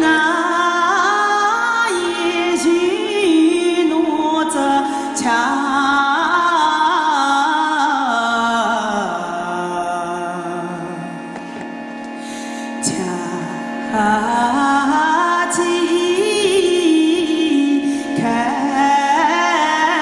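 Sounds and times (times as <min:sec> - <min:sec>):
woman singing: 0:00.0 - 0:11.2, 0:12.8 - 0:20.0
harmonium drone: 0:00.0 - 0:20.0.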